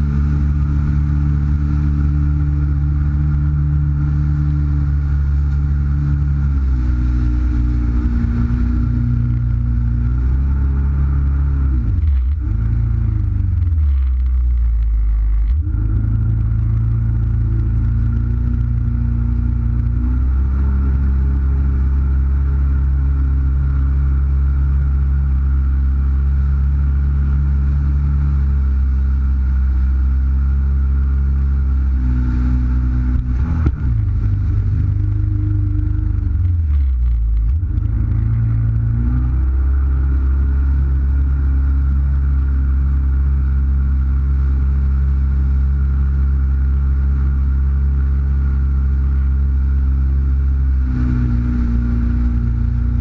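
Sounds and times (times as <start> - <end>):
jet ski engine running: 0.0 - 53.0.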